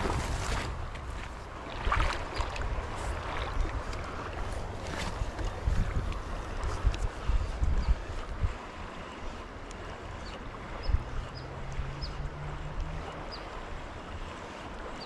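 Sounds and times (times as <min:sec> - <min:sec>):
shallow river flowing: 0:00.0 - 0:15.0
wind on microphone: 0:00.0 - 0:15.0.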